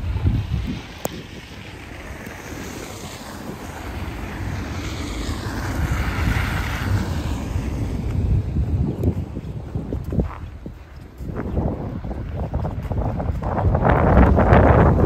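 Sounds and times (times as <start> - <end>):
tyres on slushy road: 0.0 - 15.0
wind rumble on microphone: 0.0 - 15.0.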